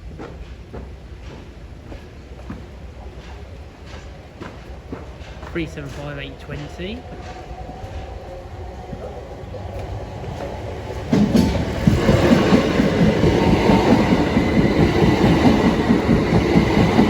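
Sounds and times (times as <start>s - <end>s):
electric train rumbling past: 0.0s - 17.0s.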